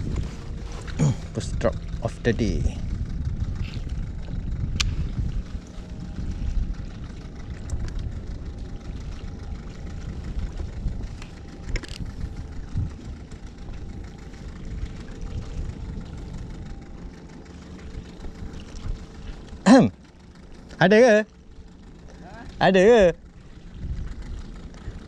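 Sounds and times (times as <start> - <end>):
outboard motor idling: 0.0 - 25.0.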